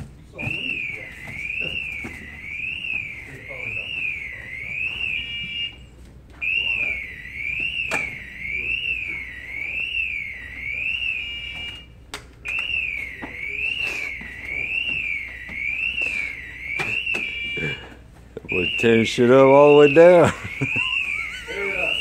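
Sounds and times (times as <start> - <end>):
electronic alarm wailing: 0.3 - 22.0.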